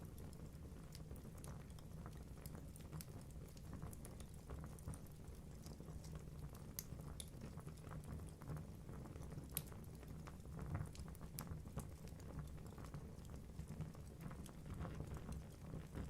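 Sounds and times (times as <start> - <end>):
logs burning with crackles: 0.0 - 16.0.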